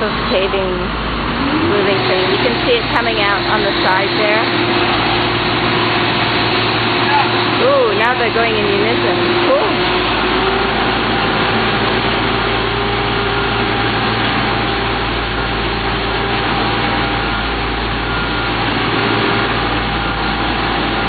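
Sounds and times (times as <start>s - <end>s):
asphalt paver engine: 0.0s - 21.0s
dump truck engine: 0.0s - 21.0s.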